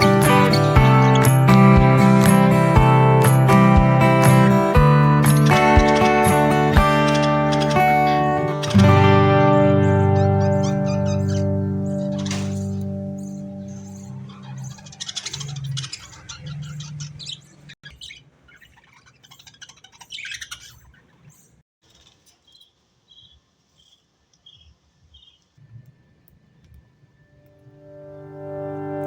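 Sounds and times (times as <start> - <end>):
budgerigars chirping: 0.0 - 21.6, 22.5 - 25.4.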